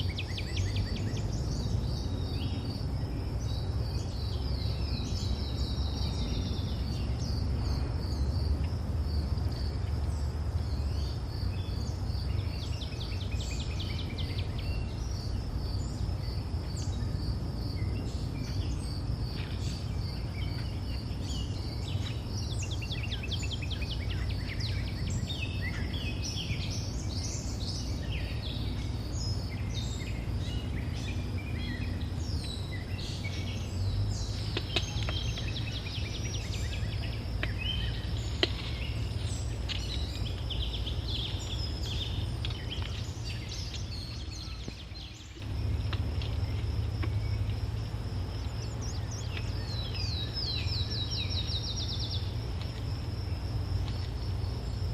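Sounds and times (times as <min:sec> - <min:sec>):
birds chirping and trilling: 0:00.0 - 0:54.9
steady low rumble: 0:00.0 - 0:54.9.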